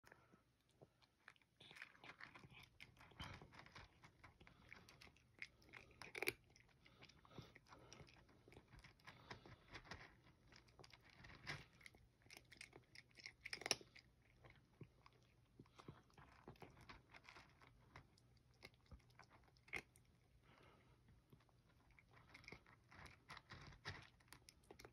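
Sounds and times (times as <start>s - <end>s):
cat crunching dry kibble: 0.1s - 24.9s.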